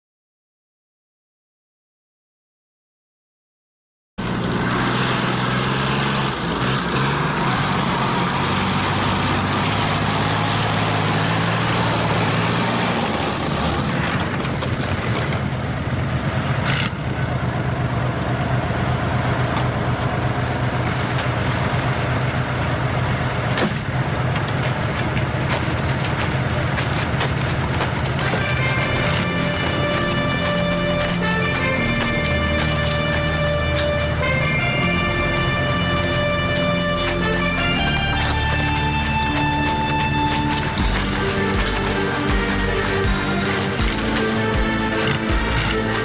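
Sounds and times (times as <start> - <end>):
diesel engine droning: 4.2 - 46.0
tracked vehicle running gear: 4.2 - 46.0.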